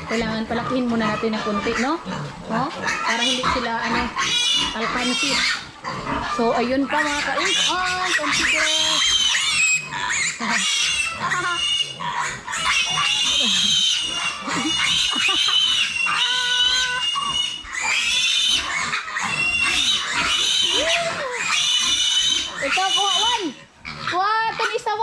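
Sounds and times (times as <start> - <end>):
piglets squealing: 0.0 - 25.0.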